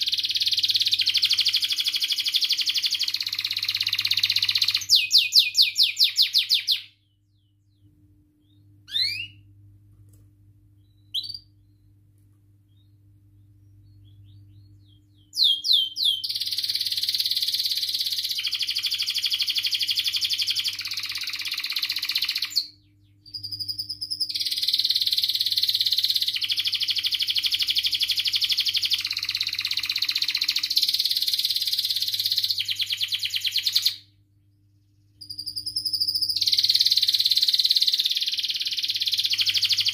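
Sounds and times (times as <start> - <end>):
canary trilling: 0.0 - 7.5, 8.4 - 9.5, 10.8 - 12.0, 13.8 - 34.2, 34.8 - 39.9
canary chirps: 0.0 - 9.8, 10.7 - 39.9.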